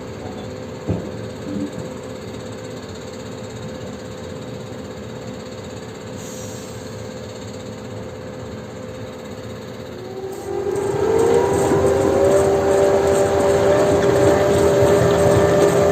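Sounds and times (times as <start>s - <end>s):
diesel machinery running with whine: 0.0s - 15.9s.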